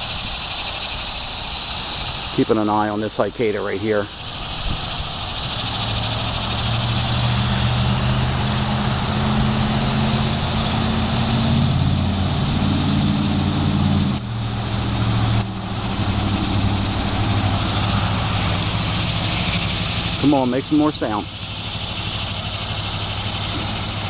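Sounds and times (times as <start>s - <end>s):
cicadas buzzing: 0.0s - 24.0s
vehicle engine idling: 0.0s - 24.0s.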